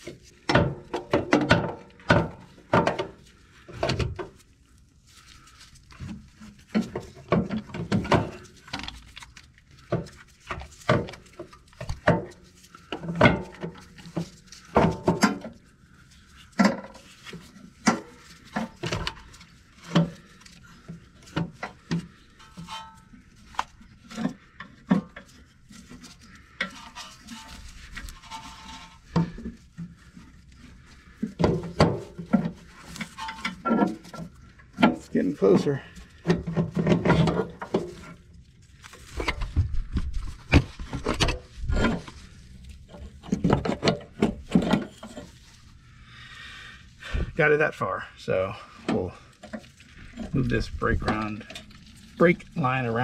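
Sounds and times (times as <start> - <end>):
metal clunks knocks and scrapes: 0.0 - 4.4, 6.0 - 9.1, 9.8 - 38.4, 39.0 - 45.7.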